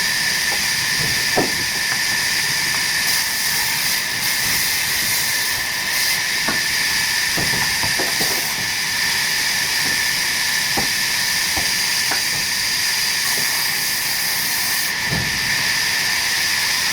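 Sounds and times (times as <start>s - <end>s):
sawmill saw cutting wood: 0.0s - 16.9s.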